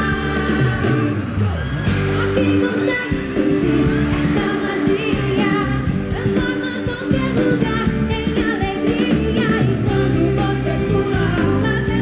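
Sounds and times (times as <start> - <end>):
person singing: 0.0 - 1.3, 2.0 - 12.0
live pop band: 0.0 - 12.0.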